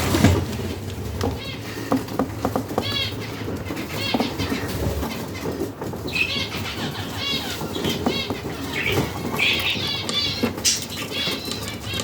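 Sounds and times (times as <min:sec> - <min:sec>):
budgerigars chirping: 0:01.3 - 0:12.0.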